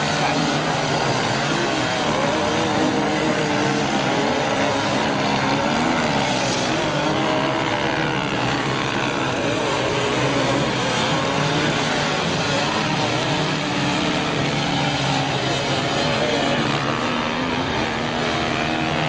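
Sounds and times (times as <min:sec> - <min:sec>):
motorcycle engines revving: 0:00.0 - 0:19.0
steady wash of noise: 0:00.0 - 0:19.0.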